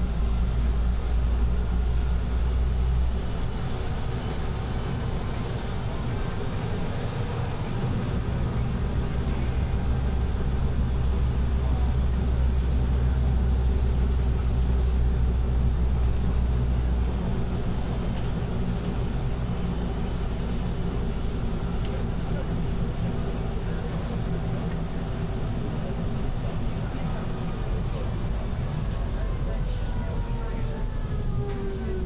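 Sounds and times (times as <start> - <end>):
bus engine drone: 0.0 - 32.0
road and tyre noise: 0.0 - 32.0.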